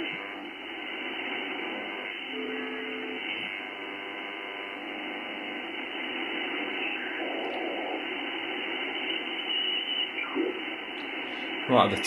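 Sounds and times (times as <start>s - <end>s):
radio band noise hiss: 0.0s - 12.0s.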